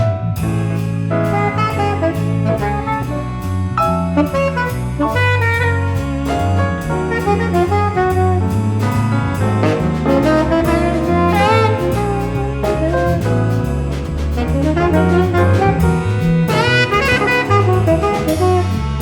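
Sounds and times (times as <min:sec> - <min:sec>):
jazz waltz band accompaniment: 0:00.0 - 0:19.0
tenor saxophone melody: 0:01.2 - 0:19.0.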